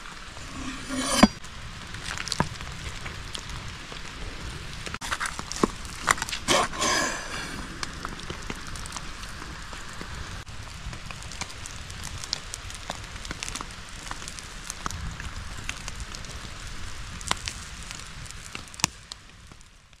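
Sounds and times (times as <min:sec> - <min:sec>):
wood fire crackling and popping: 0:01.2 - 0:20.0
rain pattering: 0:01.4 - 0:06.3, 0:07.3 - 0:20.0.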